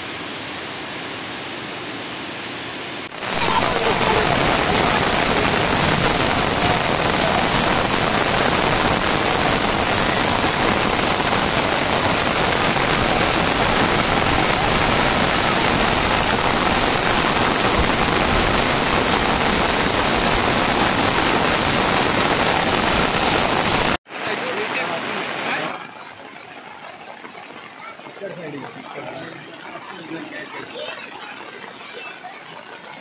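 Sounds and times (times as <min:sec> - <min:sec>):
heavy rain on water: 0:00.0 - 0:33.0.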